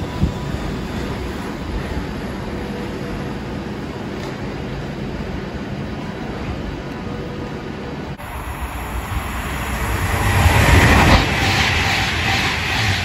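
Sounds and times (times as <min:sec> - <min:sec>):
electric train running past: 0:00.0 - 0:13.0
train standing at platform: 0:00.0 - 0:13.0.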